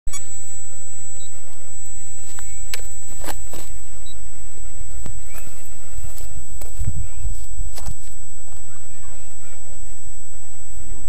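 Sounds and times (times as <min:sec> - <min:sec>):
steady high whine: 0:00.1 - 0:11.0.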